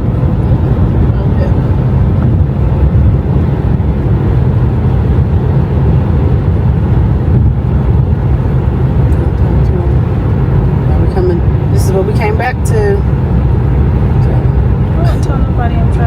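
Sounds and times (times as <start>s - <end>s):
vehicle interior rumble: 0.0s - 16.0s.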